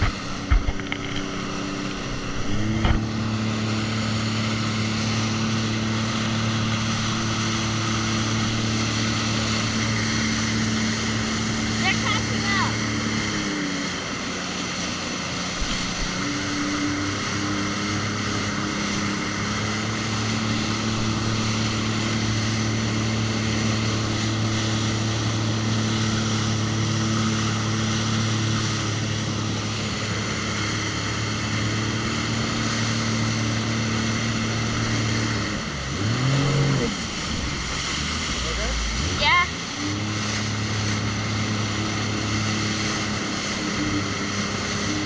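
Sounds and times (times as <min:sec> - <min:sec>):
jet ski engine running: 0:00.0 - 0:45.0.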